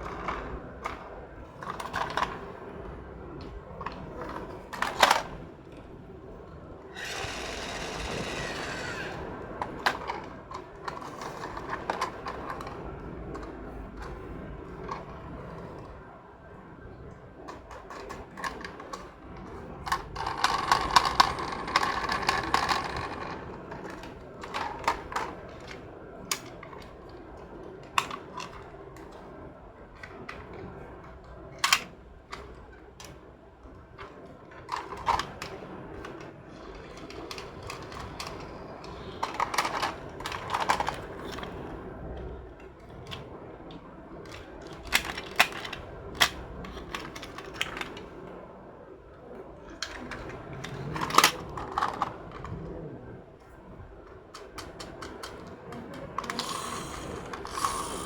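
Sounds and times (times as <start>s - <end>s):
toy cars clicking and clattering: 0.0s - 2.6s, 3.4s - 5.8s, 6.9s - 14.2s, 14.8s - 16.0s, 17.4s - 29.3s, 30.0s - 33.2s, 34.0s - 42.2s, 43.0s - 48.2s, 49.7s - 52.7s, 54.1s - 58.0s.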